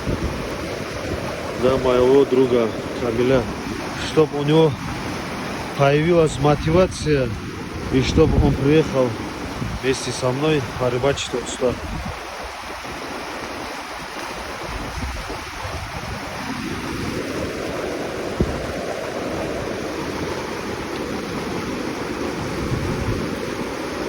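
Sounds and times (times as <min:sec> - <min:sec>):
river rushing: 0:00.0 - 0:24.0
wind on microphone: 0:00.0 - 0:24.0.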